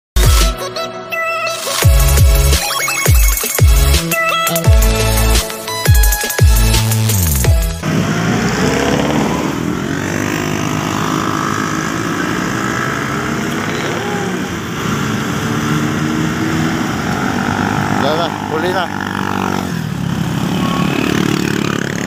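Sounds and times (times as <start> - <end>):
street traffic noise: 1.6 - 22.0
motorcycles passing: 3.5 - 22.0.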